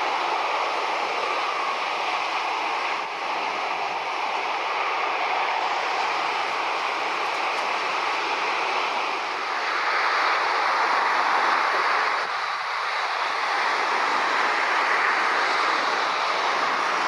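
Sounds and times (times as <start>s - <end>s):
jet engines taxiing: 0.0s - 17.0s
road traffic noise: 0.0s - 17.0s.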